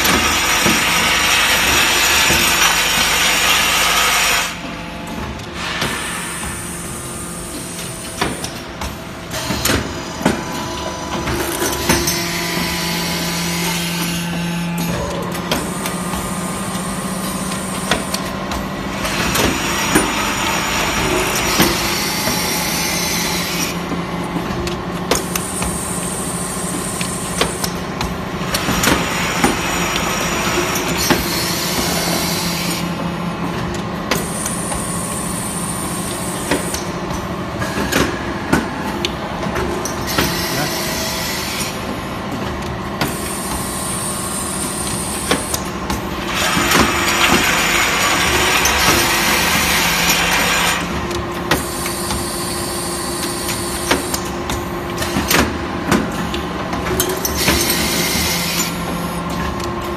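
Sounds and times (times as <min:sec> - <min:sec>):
machine mechanical clatter: 0:07.5 - 0:59.9.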